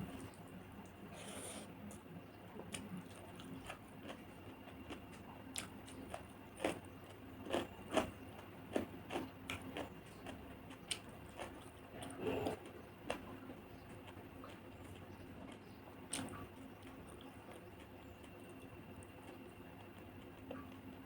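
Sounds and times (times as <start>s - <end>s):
chewing with mouth clicks: 0.1s - 21.0s.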